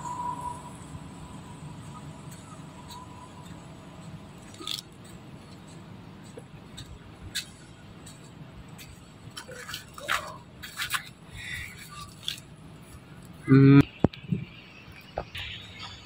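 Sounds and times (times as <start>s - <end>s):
low outdoor hum: 0.0s - 16.0s.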